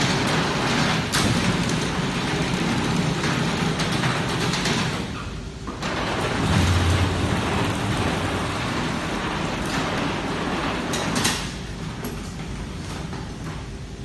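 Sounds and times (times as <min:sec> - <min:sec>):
strapping machine humming: 0:00.0 - 0:13.6.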